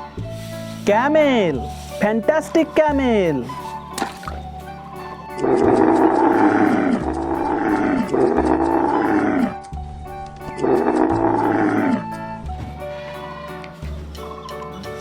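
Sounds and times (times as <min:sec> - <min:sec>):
camel calling: 0:00.0 - 0:09.8, 0:10.5 - 0:15.0
background music: 0:00.0 - 0:15.0.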